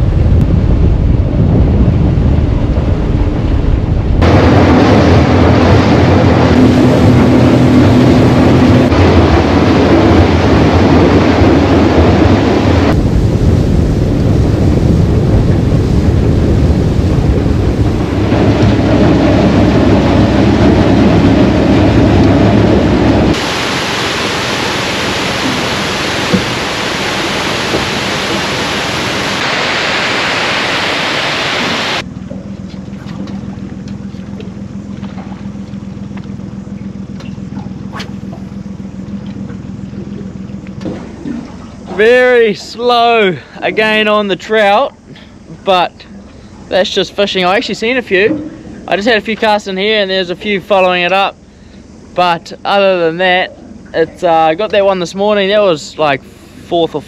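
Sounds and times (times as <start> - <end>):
low hum: 0.0 - 55.2
outboard motor running: 0.0 - 57.0
wind: 0.0 - 57.0
water rushing: 0.9 - 57.0.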